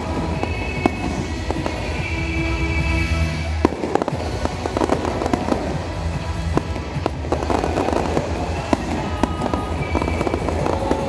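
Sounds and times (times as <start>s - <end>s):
fireworks cracking and popping: 0.0s - 11.0s
music: 0.0s - 11.0s.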